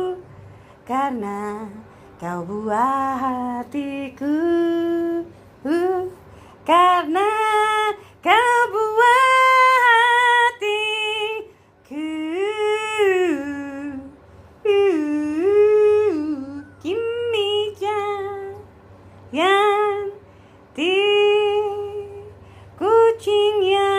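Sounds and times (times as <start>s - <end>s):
woman singing slow melody: 0.0s - 18.7s, 19.3s - 23.9s.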